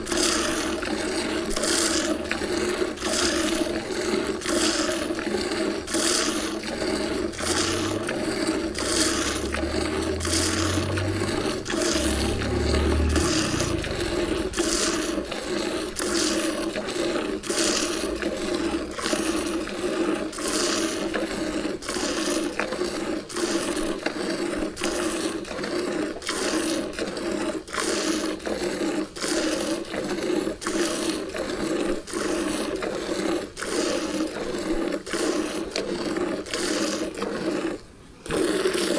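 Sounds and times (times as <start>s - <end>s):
milk squirting into a pail: 0.0s - 38.9s.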